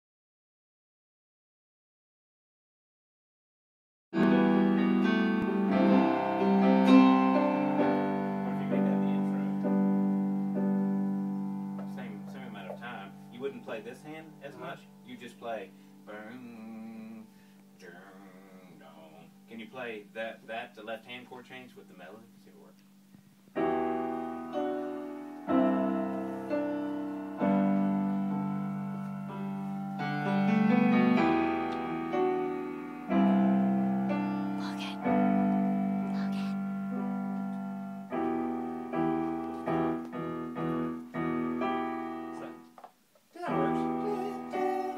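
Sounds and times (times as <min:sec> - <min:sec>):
slow piano chords: 0:04.2 - 0:20.4, 0:23.5 - 0:42.8, 0:43.4 - 0:44.9.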